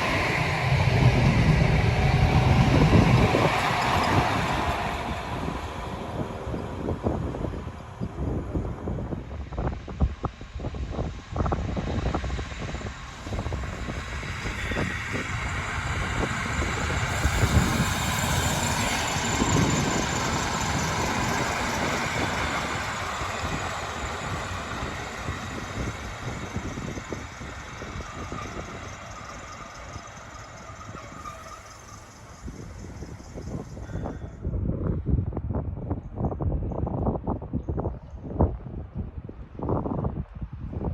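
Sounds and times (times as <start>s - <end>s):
train wheels rumbling on rail: 0.0s - 40.9s
wind buffeting microphone: 0.0s - 40.9s.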